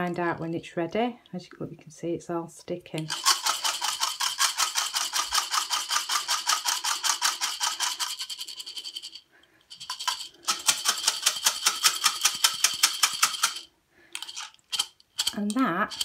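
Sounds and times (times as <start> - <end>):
beads rattling in shaken glass jar: 3.1 - 16.0.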